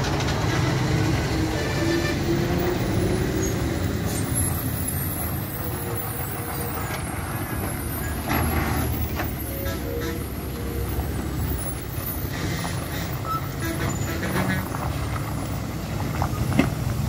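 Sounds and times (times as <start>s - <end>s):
diesel lorry engines under load: 0.0s - 17.0s.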